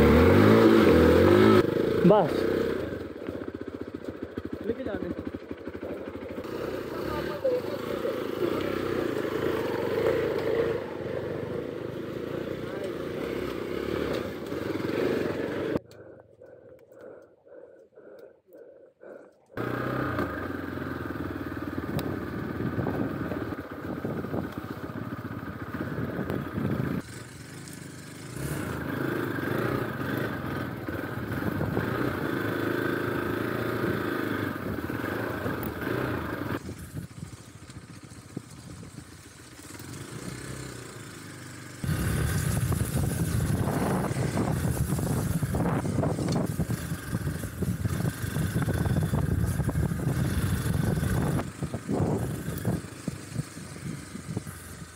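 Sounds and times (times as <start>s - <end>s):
motorcycle engine running: 0.0s - 16.2s, 19.0s - 54.9s.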